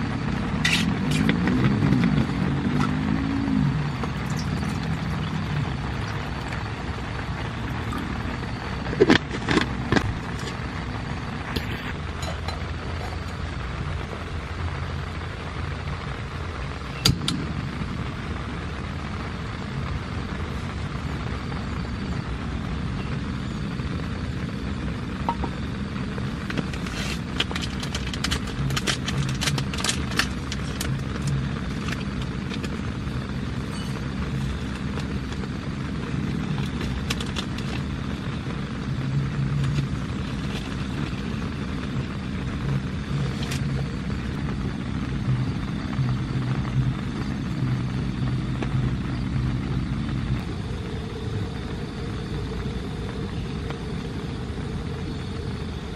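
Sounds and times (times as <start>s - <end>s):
heavy rain falling: 0.0s - 55.9s
low rumble: 0.0s - 55.9s.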